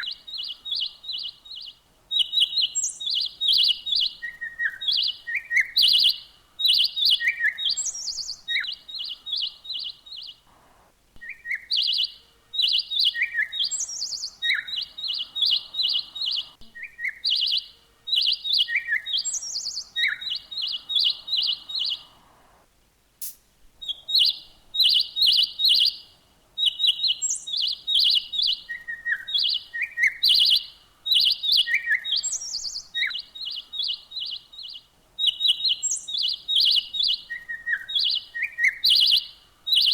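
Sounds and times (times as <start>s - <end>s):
small songbird chirping: 0.0s - 10.5s, 11.2s - 39.9s.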